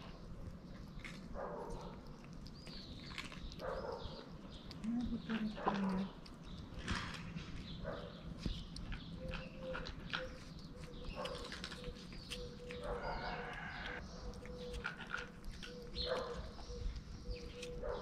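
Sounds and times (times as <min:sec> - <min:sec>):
kittens chewing wet food: 0:00.0 - 0:18.0.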